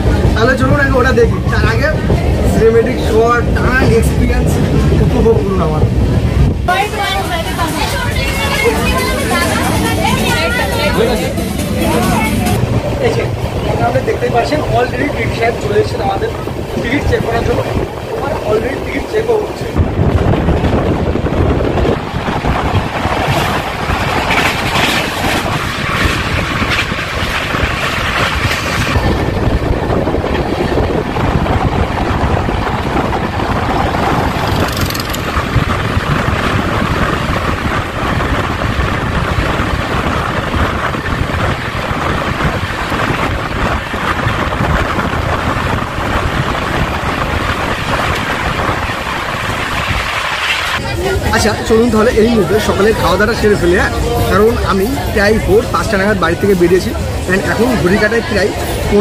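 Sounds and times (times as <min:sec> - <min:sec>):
train wheels rumbling on rails: 0:00.0 - 0:59.0
wind on microphone: 0:00.0 - 0:59.0.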